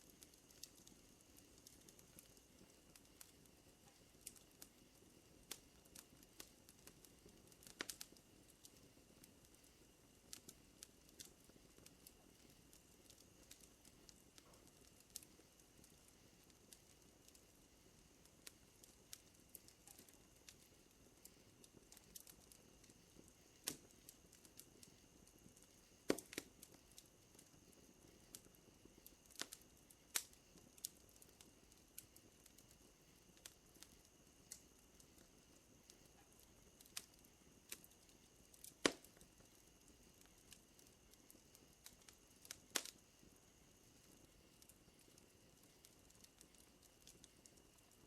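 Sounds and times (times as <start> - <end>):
night insects droning: 0.0 - 48.0
wood fire crackling and popping: 0.0 - 48.0.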